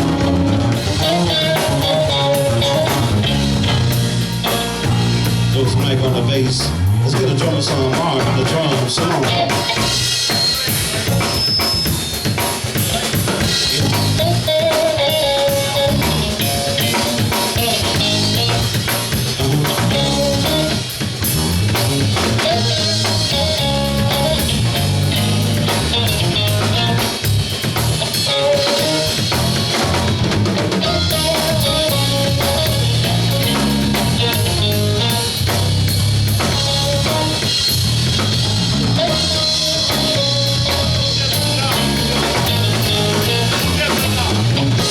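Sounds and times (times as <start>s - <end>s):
bass guitar: 0.0s - 44.9s
drum kit: 0.0s - 44.9s
soul band playing: 0.0s - 44.9s.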